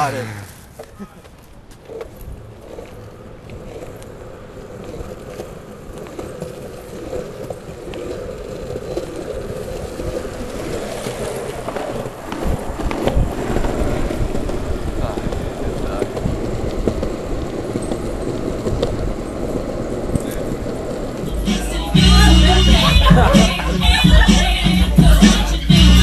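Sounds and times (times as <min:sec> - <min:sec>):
wheels rolling on pavement: 0:00.0 - 0:26.0.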